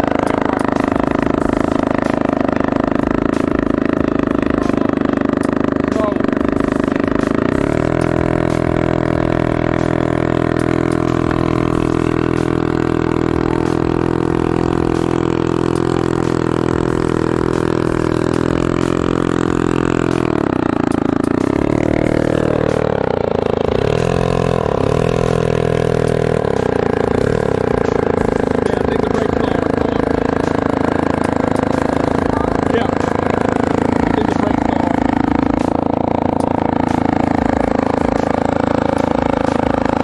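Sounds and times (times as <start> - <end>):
small quad engine running: 0.0 - 40.0.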